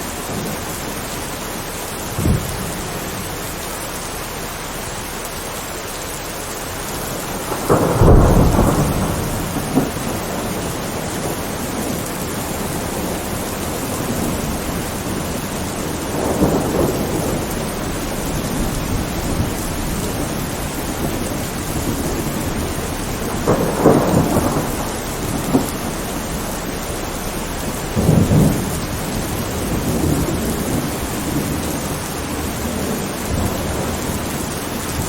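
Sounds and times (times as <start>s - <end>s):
thunder rumbling: 0.0s - 3.9s, 6.4s - 35.0s
steady rain: 0.0s - 35.0s.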